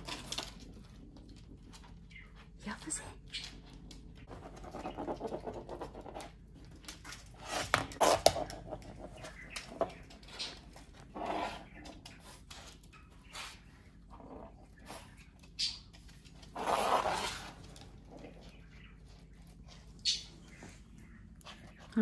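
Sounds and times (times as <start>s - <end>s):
dogs scuffling and breathing: 0.0s - 22.0s.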